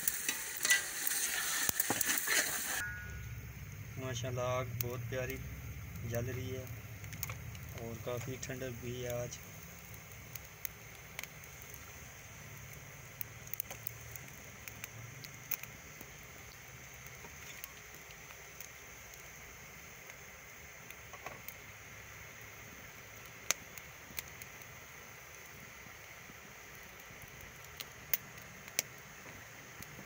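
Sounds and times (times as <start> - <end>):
fire hiss: 0.0 - 30.0
wood fire crackling: 0.0 - 30.0.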